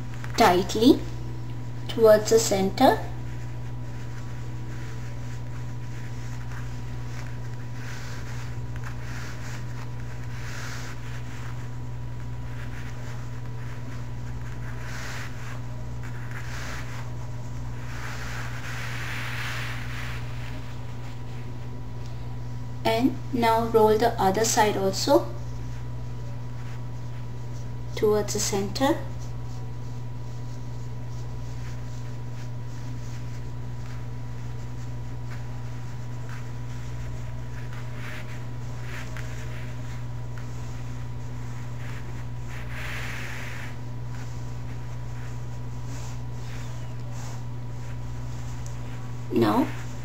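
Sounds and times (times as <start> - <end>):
towel rustling: 0.0 - 22.7, 23.9 - 50.0
steady low hum: 0.0 - 50.0.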